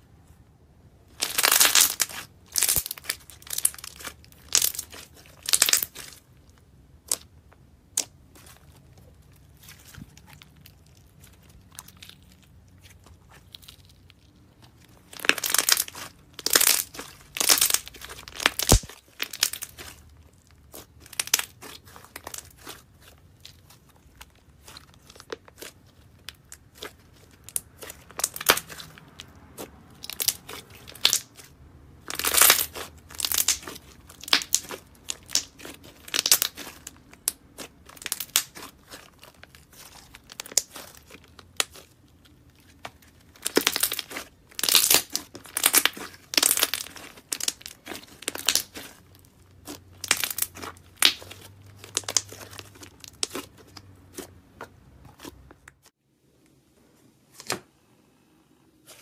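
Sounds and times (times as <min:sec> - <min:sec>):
slime popping and crackling: 0:01.1 - 0:55.9.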